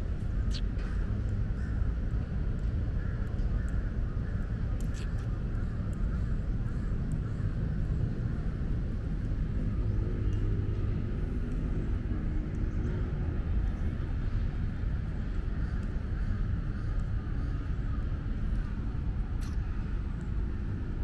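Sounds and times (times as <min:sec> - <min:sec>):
faint engine hum: 0:00.0 - 0:21.0.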